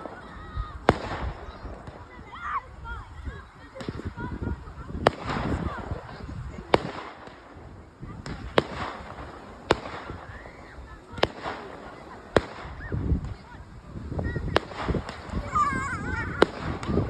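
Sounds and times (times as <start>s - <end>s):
firework shells bursting: 0.0s - 2.2s, 3.5s - 13.5s, 14.2s - 17.0s
murmur of crowd voices: 0.0s - 17.0s.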